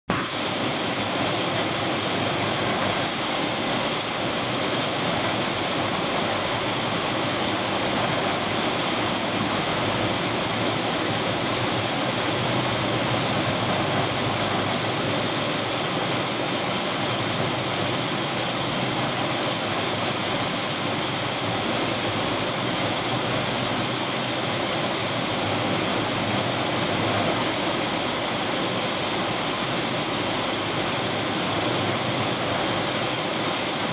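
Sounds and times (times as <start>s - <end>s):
rough sea: 0.1s - 33.9s
rushing wind: 0.1s - 33.9s.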